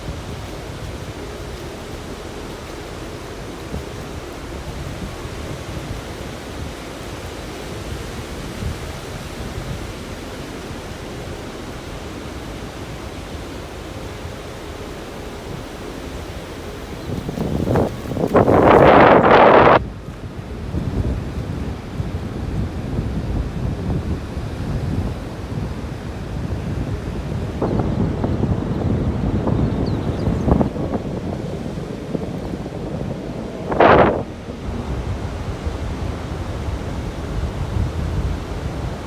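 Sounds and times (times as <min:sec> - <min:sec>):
ocean surf: 0:00.0 - 0:29.6, 0:30.3 - 0:39.0.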